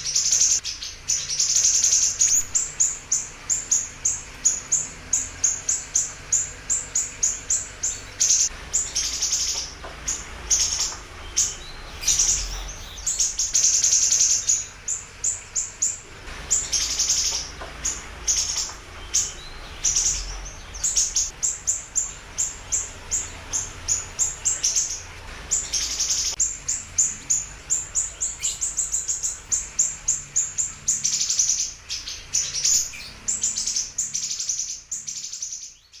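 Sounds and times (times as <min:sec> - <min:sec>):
songbird chirping: 0:00.0 - 0:36.0.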